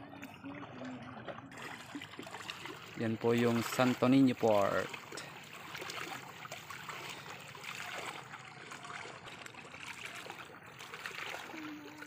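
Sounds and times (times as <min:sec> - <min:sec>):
small water splashes: 0:00.0 - 0:12.0
water lapping around a boat: 0:00.0 - 0:12.0.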